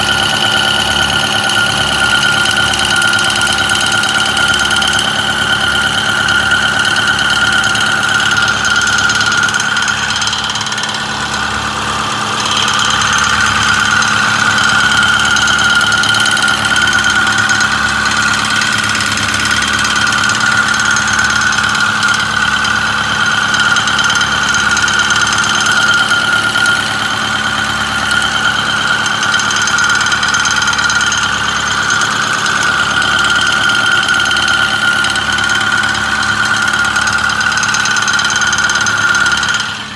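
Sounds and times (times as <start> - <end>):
diesel engine running with rattle: 0.0 - 39.9.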